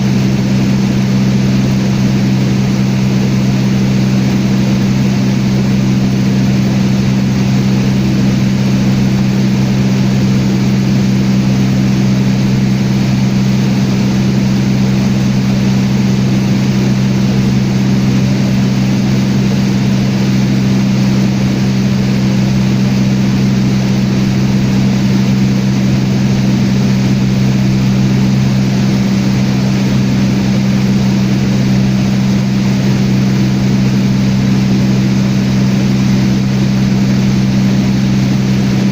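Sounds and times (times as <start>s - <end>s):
small airplane engine droning: 0.0s - 38.9s.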